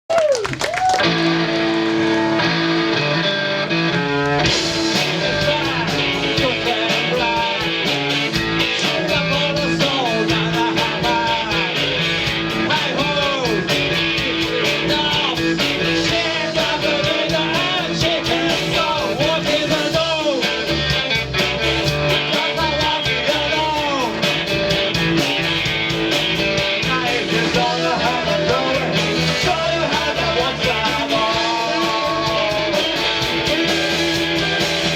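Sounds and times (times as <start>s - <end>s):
electric guitar: 0.3s - 34.9s
rock band playing live: 0.8s - 34.9s.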